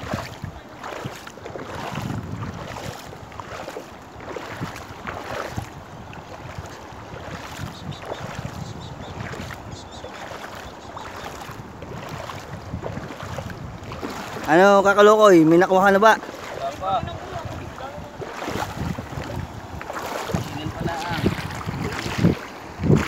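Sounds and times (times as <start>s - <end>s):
seawater sloshing from wading: 0.0s - 23.0s.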